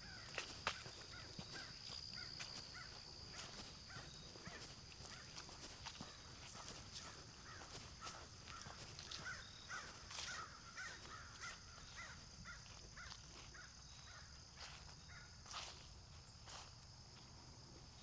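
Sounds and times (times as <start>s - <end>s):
footsteps on a trail: 0.0s - 18.0s
high insect drone: 0.0s - 18.0s.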